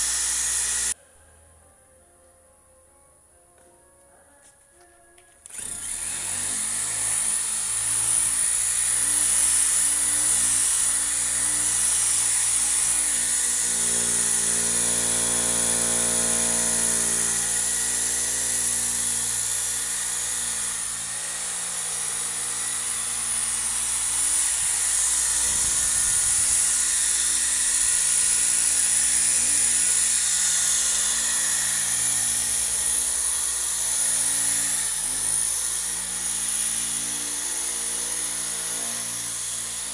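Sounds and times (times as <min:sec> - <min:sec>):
electric polisher whining: 0:00.0 - 0:01.0, 0:05.4 - 0:39.9.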